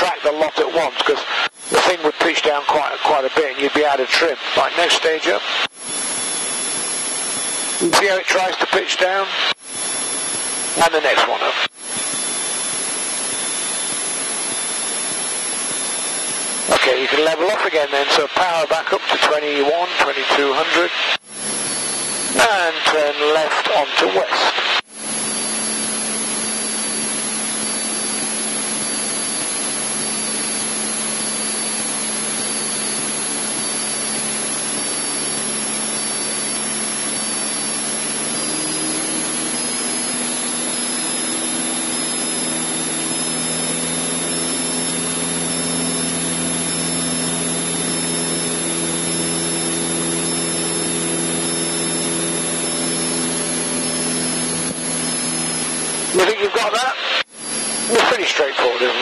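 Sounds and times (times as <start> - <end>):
airplane engine and propeller droning: 0.0 - 59.0.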